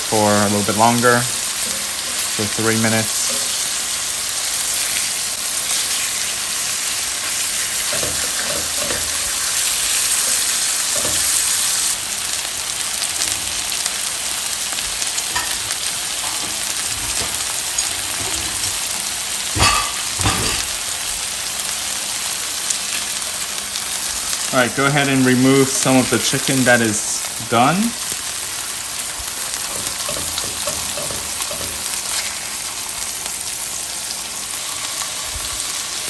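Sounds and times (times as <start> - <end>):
chicken sizzling in oil: 0.0 - 36.0.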